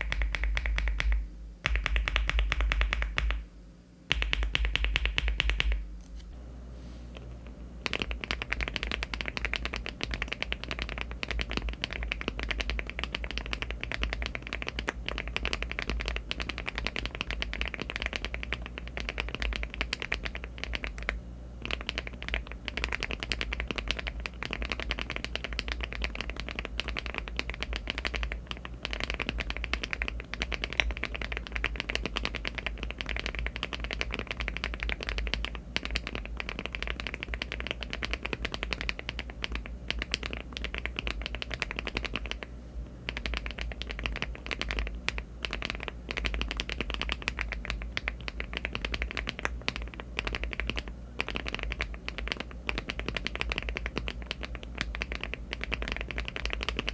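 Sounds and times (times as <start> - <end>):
mechanical keyboard typing: 0.0 - 3.4, 4.1 - 5.8, 7.8 - 42.5, 43.1 - 56.9.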